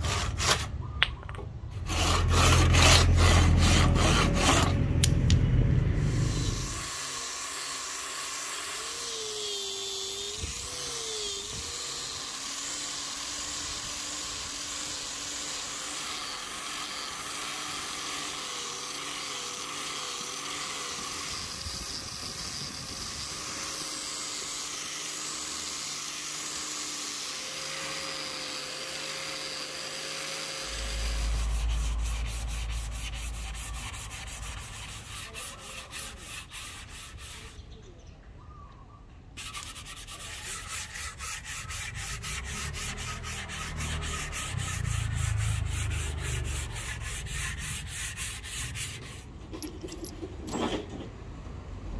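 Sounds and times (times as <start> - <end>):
hand tool scraping wood: 0.0 - 5.2, 6.0 - 37.7, 39.4 - 51.1.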